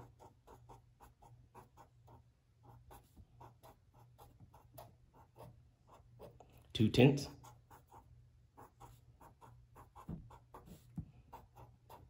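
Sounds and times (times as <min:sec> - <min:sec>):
marker scratching on paper: 0:00.0 - 0:06.5, 0:07.3 - 0:12.0.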